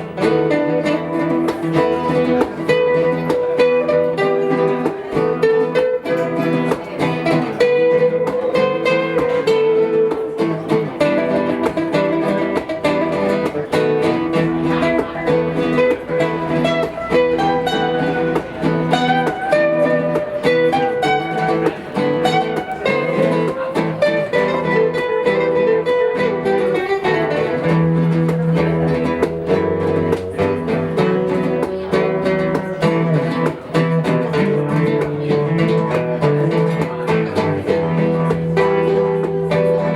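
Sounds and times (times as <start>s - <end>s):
plucked guitar notes: 0.0s - 39.9s.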